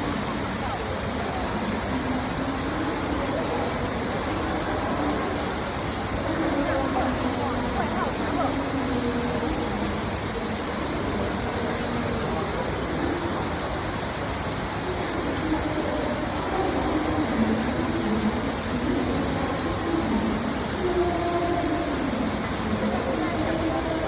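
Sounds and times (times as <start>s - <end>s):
faint chatter of voices: 0.0s - 24.0s
indoor waterfall rushing: 0.0s - 24.0s.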